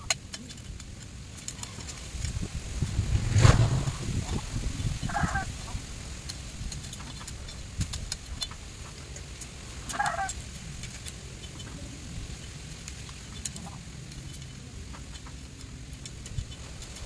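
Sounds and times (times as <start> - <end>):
twigs snapping: 0.0 - 3.9, 5.9 - 17.0
bamboo rustling and cracking: 0.0 - 17.0.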